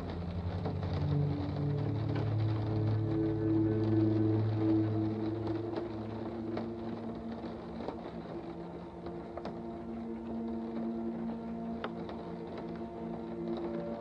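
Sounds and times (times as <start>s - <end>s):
ambient music drone: 0.0s - 14.0s
faint ticks: 0.0s - 14.0s.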